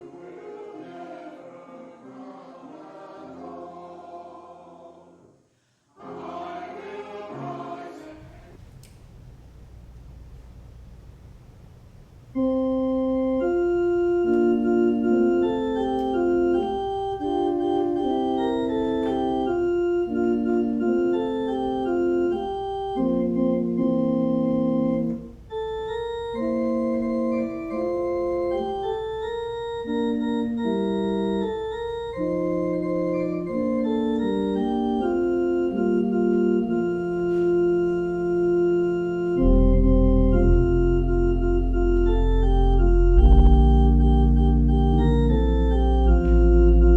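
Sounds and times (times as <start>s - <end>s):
deep organ pedal bass notes: 8.2s - 46.9s
organ sustained chords: 8.2s - 46.9s.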